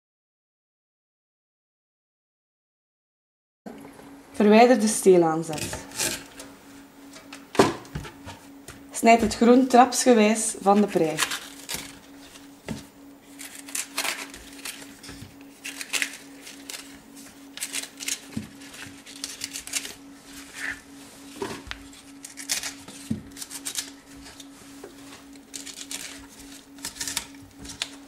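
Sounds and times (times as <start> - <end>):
steady low hum: 3.7 - 28.0.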